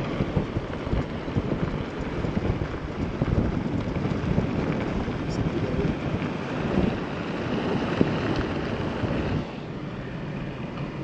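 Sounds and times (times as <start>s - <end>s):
vehicle driving rumble: 0.0s - 11.0s
wind buffeting microphone: 0.0s - 11.0s.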